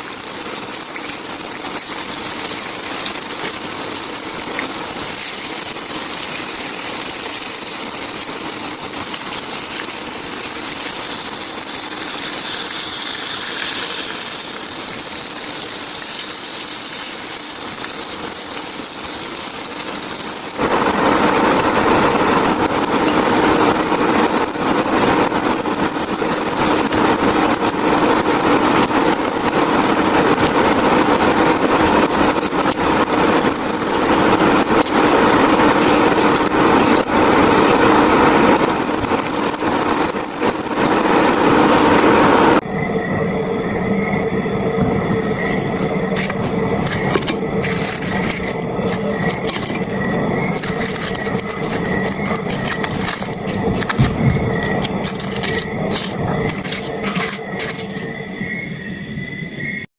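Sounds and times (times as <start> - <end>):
fish sizzling in hot oil: 0.0 - 42.6, 44.9 - 58.5.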